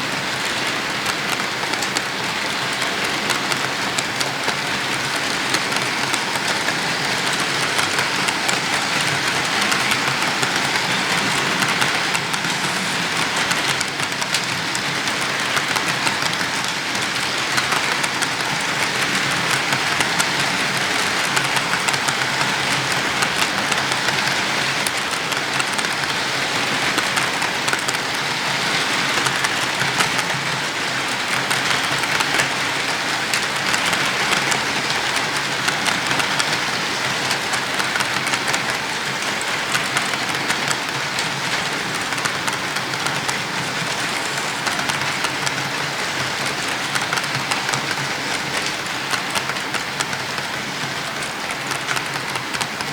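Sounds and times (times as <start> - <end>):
fine clicks of wheels on rails: 0.0 - 52.9
model train running on track: 0.0 - 52.9.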